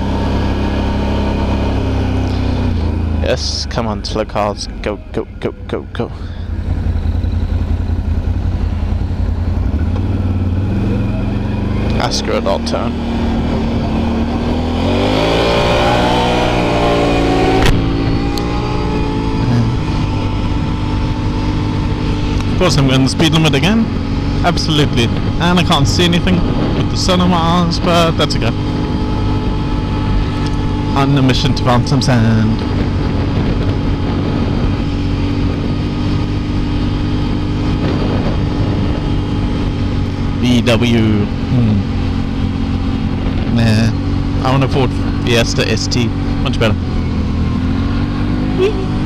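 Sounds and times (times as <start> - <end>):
atv engine accelerating: 0.0 - 49.0.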